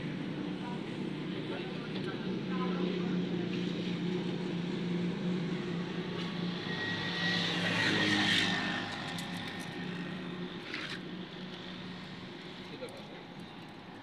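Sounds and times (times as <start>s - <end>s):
steady mechanical drone: 0.0s - 14.0s.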